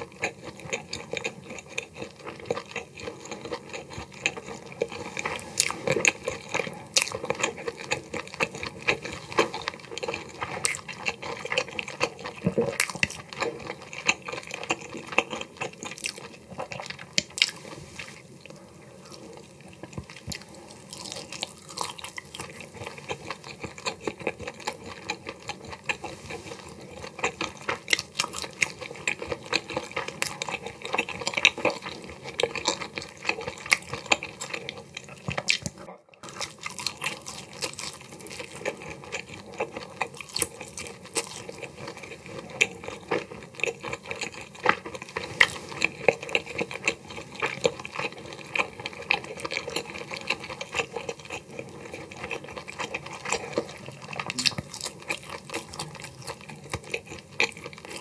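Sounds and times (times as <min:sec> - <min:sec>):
chewing with wet smacking: 0:00.0 - 0:58.0.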